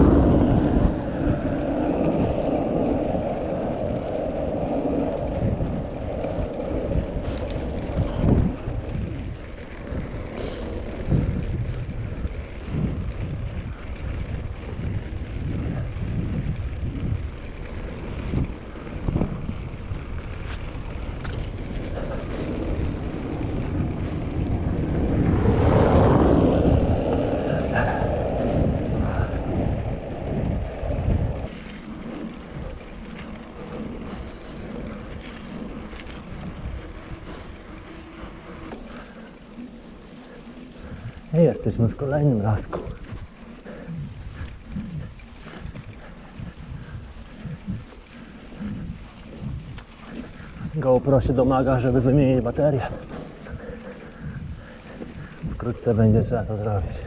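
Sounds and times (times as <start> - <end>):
bike rattling over cobblestones: 0.0 - 57.0
tyre noise on dirt track: 0.0 - 57.0
wind on microphone: 0.0 - 57.0.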